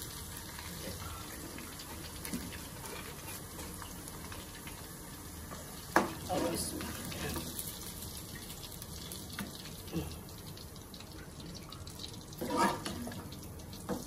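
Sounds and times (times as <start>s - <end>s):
corn sizzling in hot oil: 0.0s - 14.0s.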